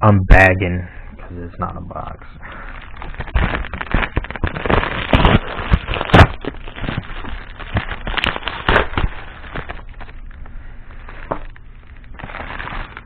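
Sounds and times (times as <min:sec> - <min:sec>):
bag rustling and crackling: 0:02.4 - 0:13.0.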